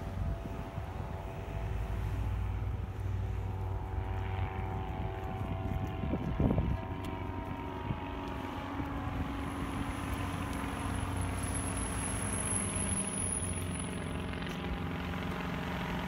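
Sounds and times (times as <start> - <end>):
faint high whine: 0.0 - 6.8, 7.5 - 14.8
engine drone: 0.0 - 16.0.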